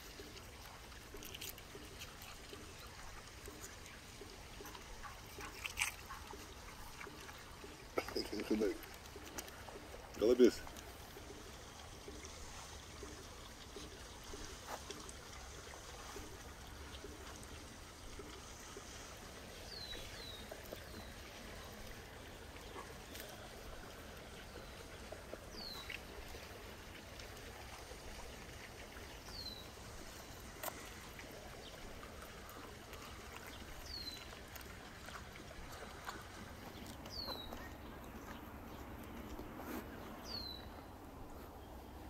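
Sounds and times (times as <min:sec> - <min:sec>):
running water rush: 0:00.0 - 0:42.0.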